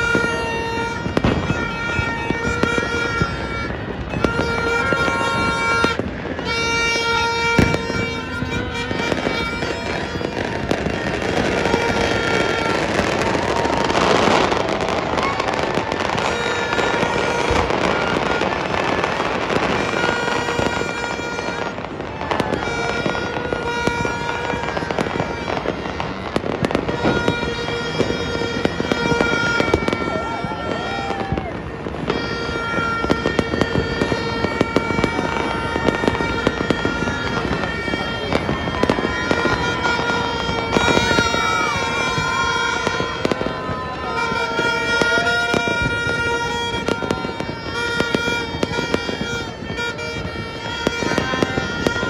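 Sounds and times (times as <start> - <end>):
fireworks crackling and popping: 0.0 - 52.0.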